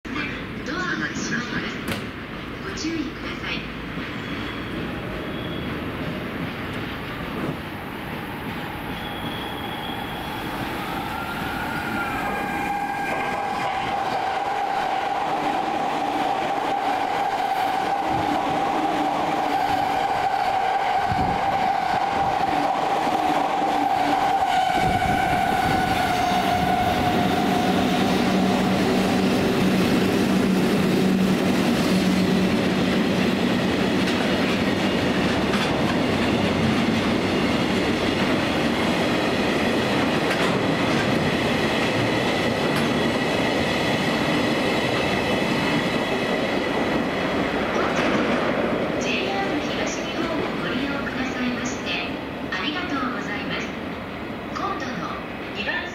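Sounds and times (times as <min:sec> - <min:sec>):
steady train whine: 0:00.0 - 0:55.9
electric train passing: 0:00.2 - 0:55.9
freight train rolling by: 0:00.2 - 0:55.9.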